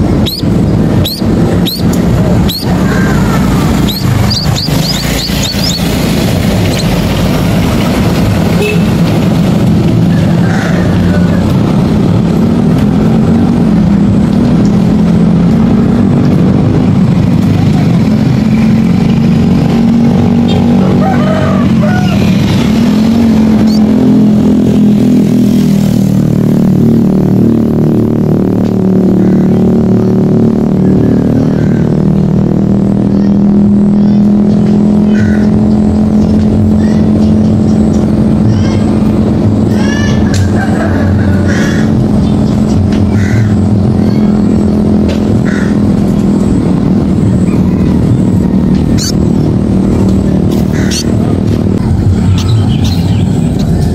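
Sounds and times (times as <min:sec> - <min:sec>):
traffic passing: 0:00.0 - 0:53.9.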